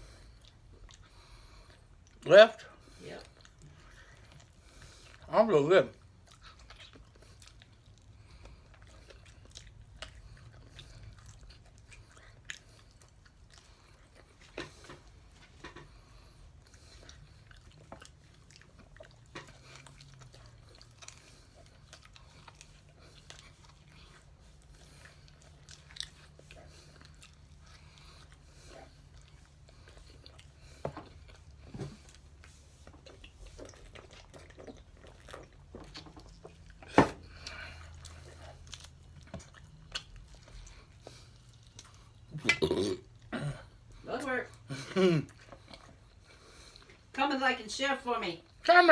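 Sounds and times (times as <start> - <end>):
person chewing chicken wings: 0.0 - 47.1.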